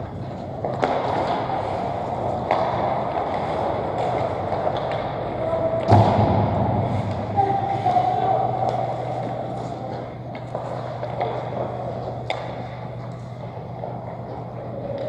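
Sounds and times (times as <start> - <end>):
skates scraping on ice: 0.0 - 5.6, 6.9 - 15.0
hockey sticks knocking: 0.1 - 6.2, 6.8 - 15.0.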